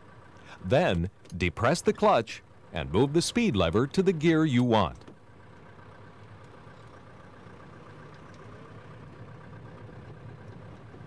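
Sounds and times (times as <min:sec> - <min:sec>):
faint diesel engine hum: 0:00.0 - 0:11.0.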